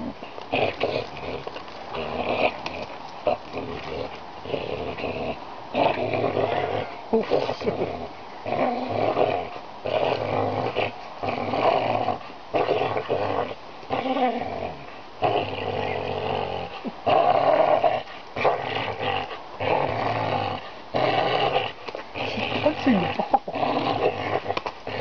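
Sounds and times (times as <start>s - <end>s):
dog play-growling: 0.0s - 25.0s.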